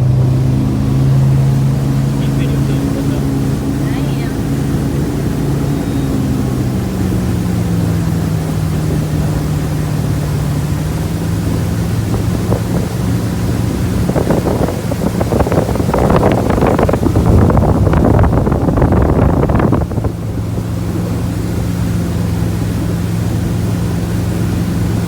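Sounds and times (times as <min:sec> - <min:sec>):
motorboat engine running: 0:00.0 - 0:25.0
wind buffeting microphone: 0:00.0 - 0:25.0.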